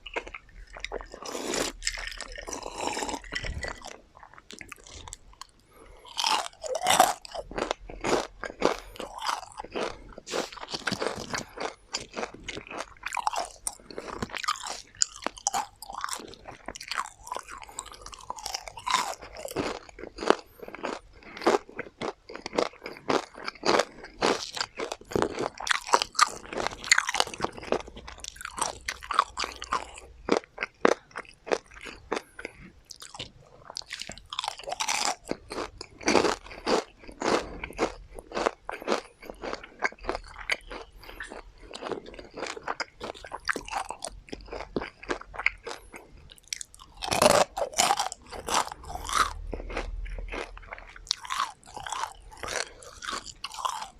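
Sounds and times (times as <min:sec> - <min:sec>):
crunchy food being chewed: 0:00.0 - 0:53.9.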